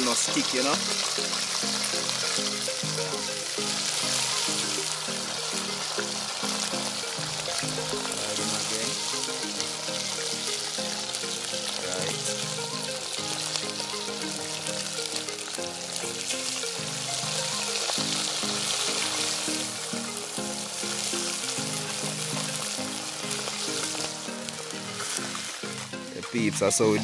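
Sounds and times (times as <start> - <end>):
background music melody: 0.0 - 27.0
fish deep-frying in oil: 0.0 - 27.0.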